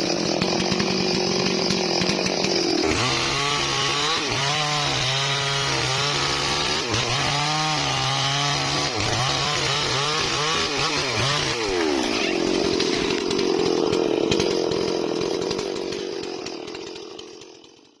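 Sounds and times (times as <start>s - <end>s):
chainsaw cutting timber: 0.0s - 18.0s.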